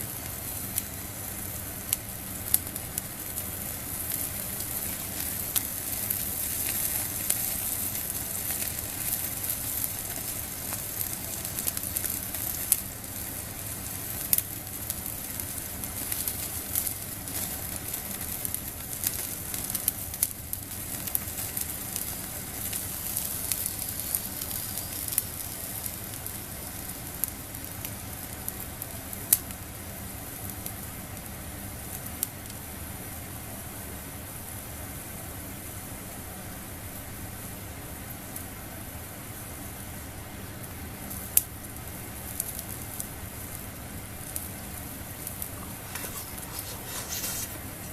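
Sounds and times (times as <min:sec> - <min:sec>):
fire crackles and pops: 0:00.0 - 0:32.8, 0:39.8 - 0:47.9
food sizzling on a grill: 0:00.0 - 0:47.9.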